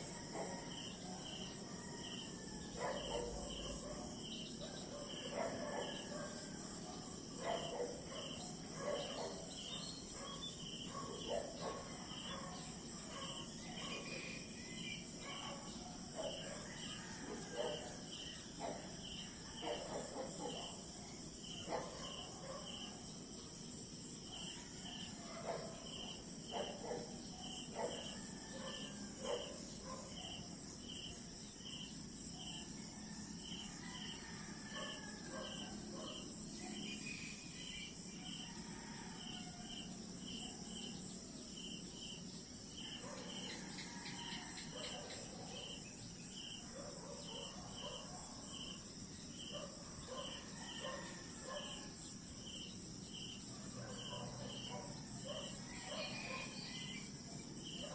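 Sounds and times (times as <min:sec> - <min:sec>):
crickets chirping: 0:00.0 - 0:57.9
high insect trill: 0:00.0 - 0:57.9.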